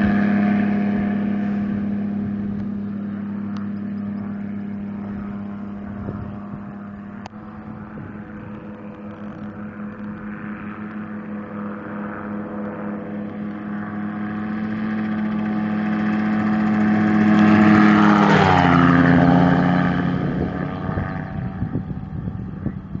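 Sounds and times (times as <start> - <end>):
gyrocopter engine and propeller passing: 0.0 - 23.0.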